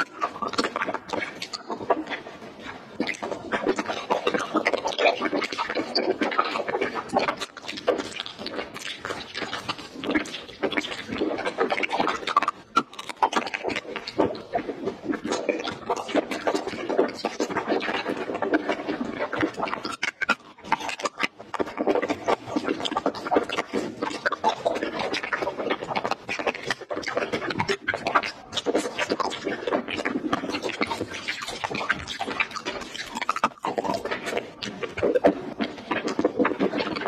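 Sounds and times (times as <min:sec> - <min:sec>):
chewing jelly candies: 0:00.0 - 0:37.0
mouth smacking and clicks: 0:00.0 - 0:37.0.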